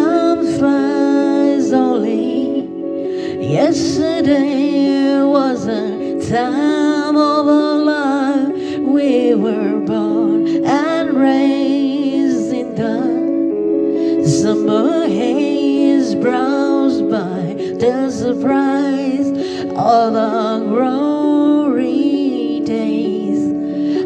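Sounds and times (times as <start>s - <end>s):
held keyboard chords: 0.0s - 24.0s
person singing with vibrato: 0.0s - 24.0s.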